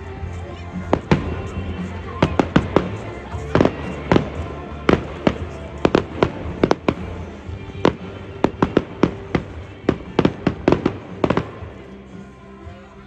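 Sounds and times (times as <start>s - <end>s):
fireworks bursting with sharp bangs: 0.0s - 12.2s.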